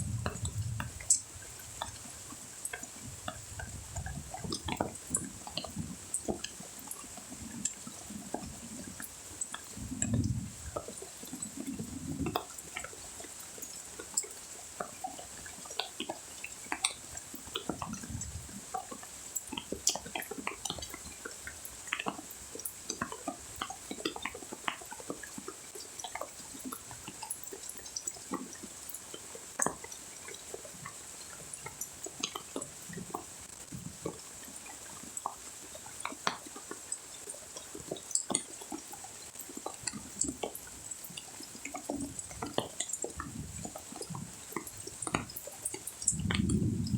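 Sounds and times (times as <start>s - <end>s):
faint rain patter: 0.0s - 46.9s
rain drops ticking and splashing: 0.0s - 46.9s.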